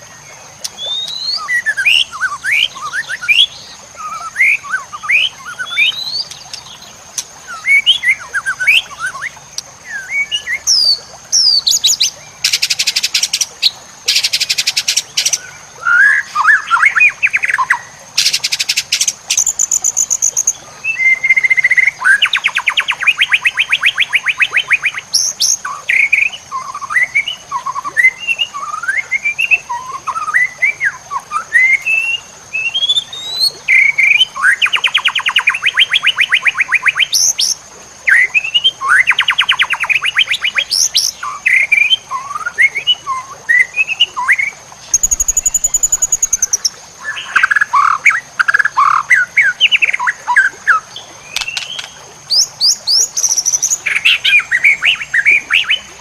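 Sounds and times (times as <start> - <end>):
bird singing whistles and trills: 0.6 - 6.7, 7.4 - 56.0.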